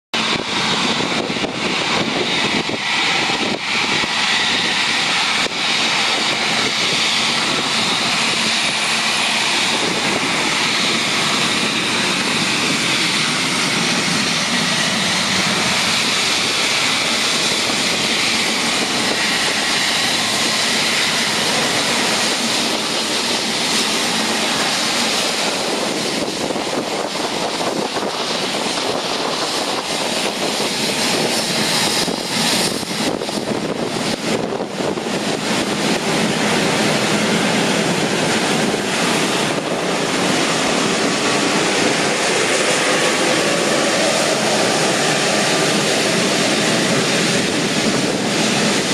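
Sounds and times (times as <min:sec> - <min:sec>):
jet engines whining: 0:00.1 - 0:48.9.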